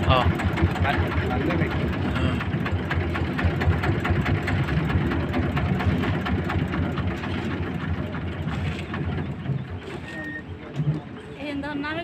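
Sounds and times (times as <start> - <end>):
boat engine rumbling and ticking: 0.0 - 12.0.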